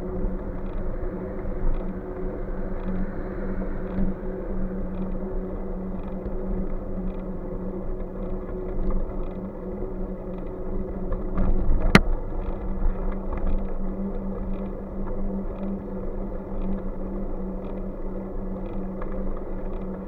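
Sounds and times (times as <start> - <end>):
bike road noise rumbling: 0.0 - 20.0
low hum: 0.0 - 20.0.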